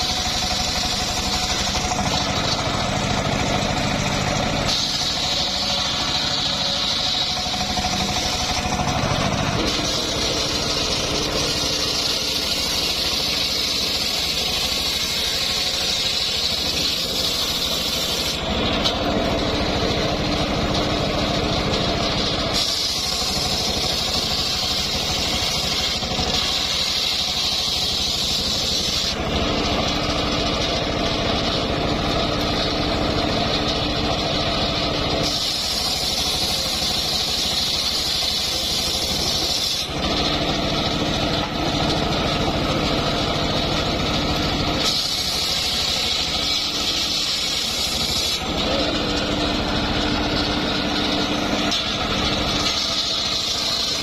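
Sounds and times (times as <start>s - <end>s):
engine drone: 0.0s - 54.0s
saw blade hiss: 0.0s - 54.0s.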